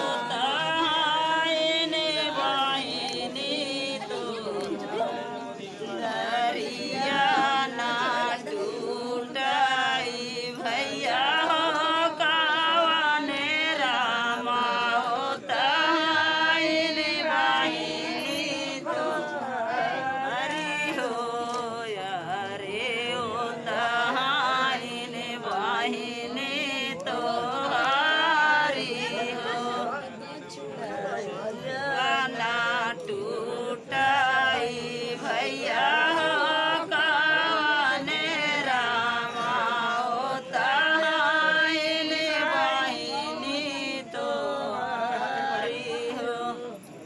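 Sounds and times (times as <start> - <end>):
voices chanting together: 0.0 - 47.0.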